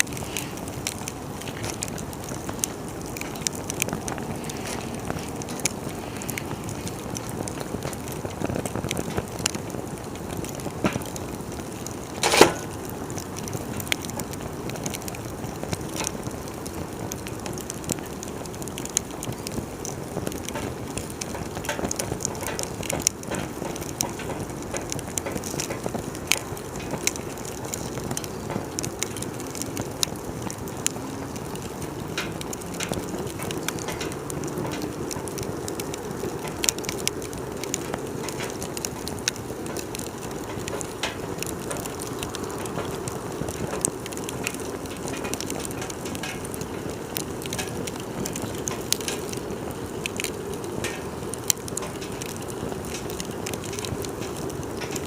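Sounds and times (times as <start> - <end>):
low steady hiss: 0.0 - 55.0
wood fire crackling: 0.0 - 55.0.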